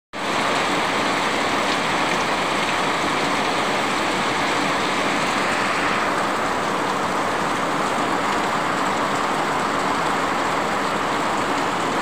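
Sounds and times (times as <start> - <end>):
heavy rain pouring: 0.2 - 12.0.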